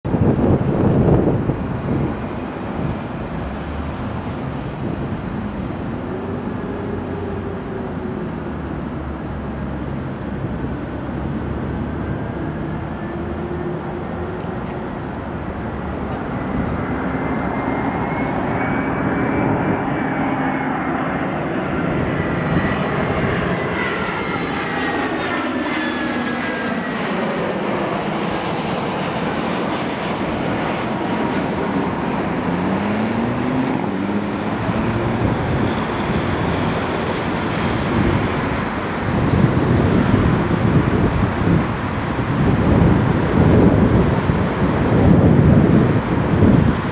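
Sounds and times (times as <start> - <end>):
high jet engine whine: 0.0 - 46.9
jet airliner flying overhead: 0.0 - 46.9.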